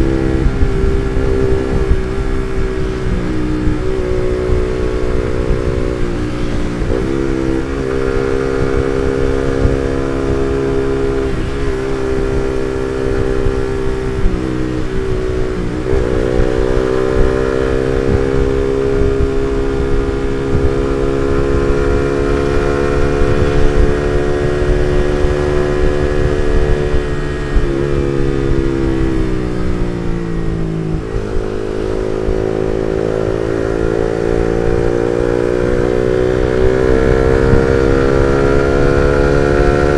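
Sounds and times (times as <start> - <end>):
motorcycle engine running: 0.0 - 39.9
wind and road rumble: 0.0 - 39.9.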